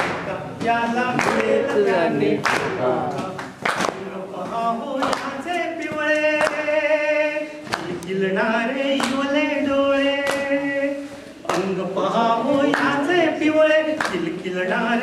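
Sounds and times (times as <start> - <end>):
group singing in unison: 0.0 - 15.0
sharp clap-like beat: 0.0 - 15.0.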